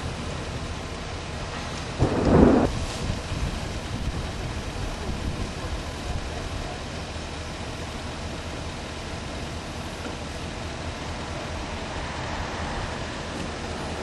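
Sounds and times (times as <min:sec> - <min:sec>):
vehicle driving rumble: 0:00.0 - 0:14.0.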